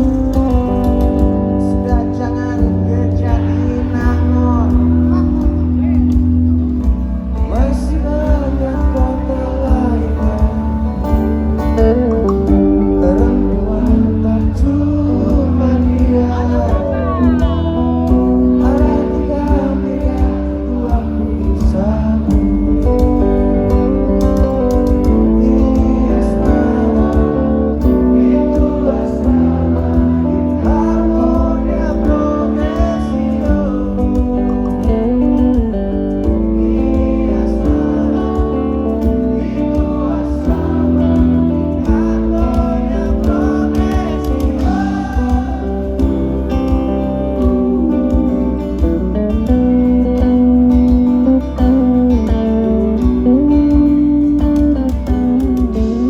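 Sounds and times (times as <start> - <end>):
acoustic guitar: 0.0 - 56.0
bass: 0.0 - 56.0
drums: 0.0 - 56.0
person singing: 0.0 - 56.0.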